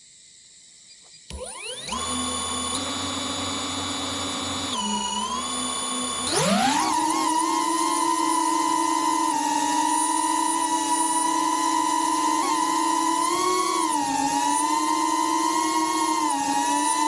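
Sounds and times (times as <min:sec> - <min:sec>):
drone propellers whining: 0:01.3 - 0:17.0.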